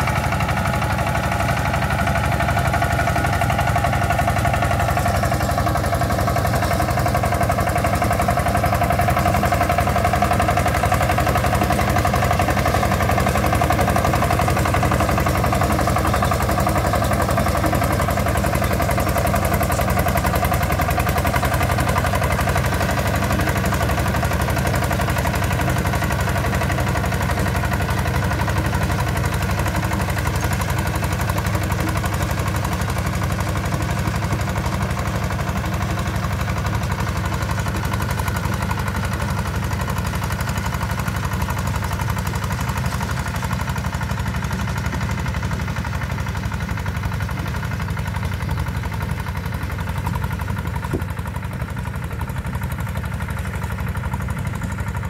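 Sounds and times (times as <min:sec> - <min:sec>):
diesel tractor engine chugging: 0:00.0 - 0:55.0.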